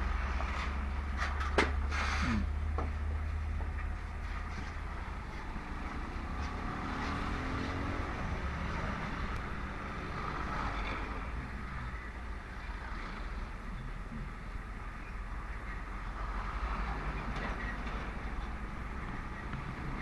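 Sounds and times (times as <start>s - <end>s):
road and engine noise: 0.0s - 20.0s.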